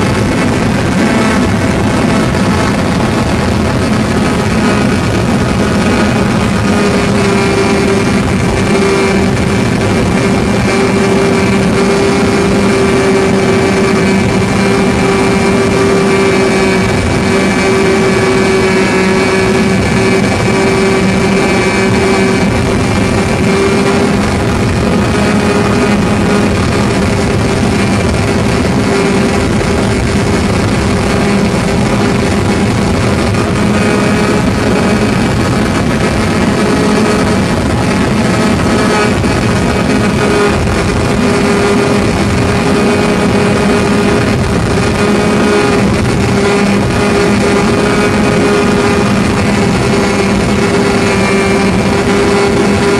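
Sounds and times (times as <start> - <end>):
model airplane engine running: 0.0 - 52.9.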